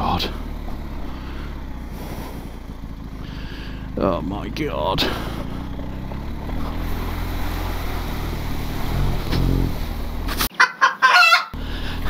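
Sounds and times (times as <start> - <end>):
motorcycle engine running: 0.0 - 10.5, 11.6 - 12.0.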